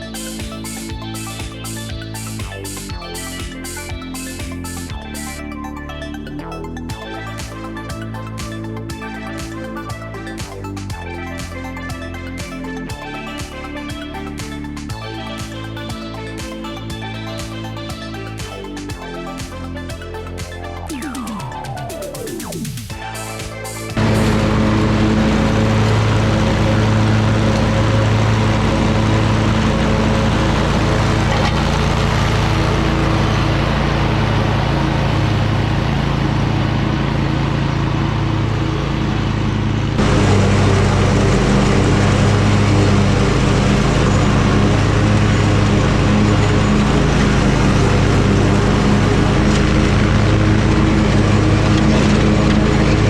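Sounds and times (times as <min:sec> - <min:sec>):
mower engine running: 0:00.0 - 0:53.0.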